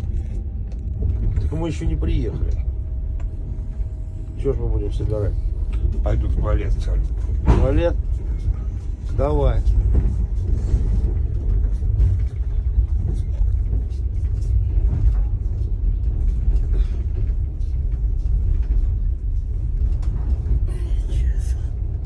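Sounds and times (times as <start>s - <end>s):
light clicks and rattles: 0.0s - 22.0s
train rumbling: 0.0s - 22.0s.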